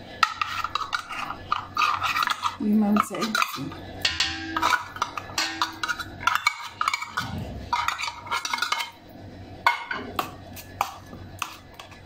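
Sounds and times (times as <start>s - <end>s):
metal spoon scraping a bowl: 0.1s - 9.0s, 9.7s - 12.0s.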